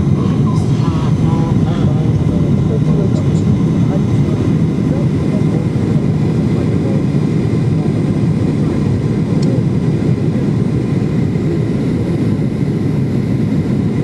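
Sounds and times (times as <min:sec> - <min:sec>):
faint steady whine: 0:00.0 - 0:14.0
jet engine rumble in cabin: 0:00.0 - 0:14.0.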